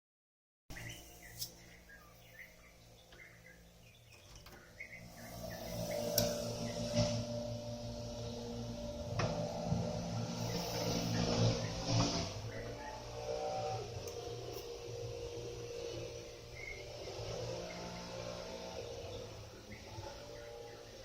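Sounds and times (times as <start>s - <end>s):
motor humming: 0.7s - 21.0s
small birds chirping: 0.7s - 21.0s.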